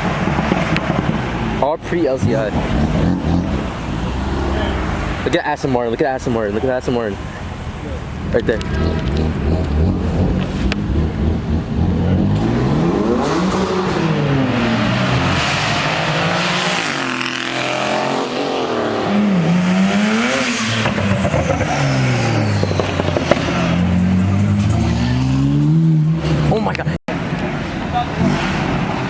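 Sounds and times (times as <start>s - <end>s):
sports car engines revving: 0.0s - 29.0s.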